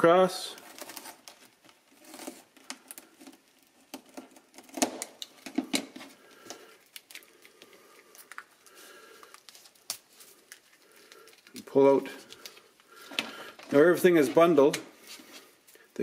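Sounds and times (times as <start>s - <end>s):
plastic rustling and crinkling: 0.4s - 16.0s.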